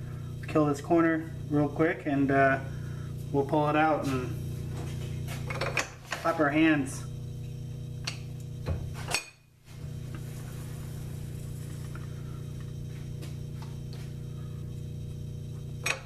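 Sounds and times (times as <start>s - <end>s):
lathe running hum: 0.0s - 16.0s.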